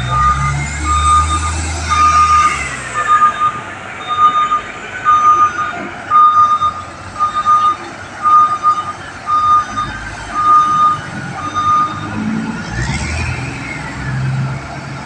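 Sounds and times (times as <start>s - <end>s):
reversing alarm beeping: 0.0s - 12.9s
diesel engine rumble: 0.0s - 15.0s.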